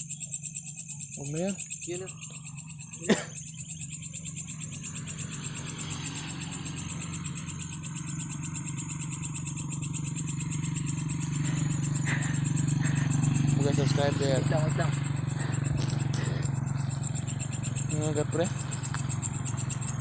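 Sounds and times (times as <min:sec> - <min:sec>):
high insect trill: 0:00.0 - 0:20.0
low pulsing frog chorus: 0:00.0 - 0:20.0.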